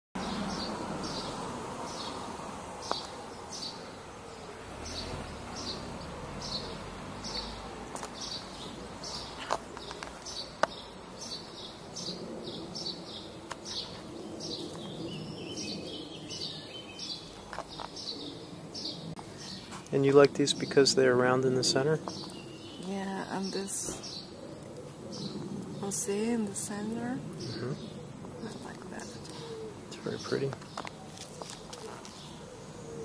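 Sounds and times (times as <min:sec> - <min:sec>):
outdoor background noise: 0:00.2 - 0:33.0.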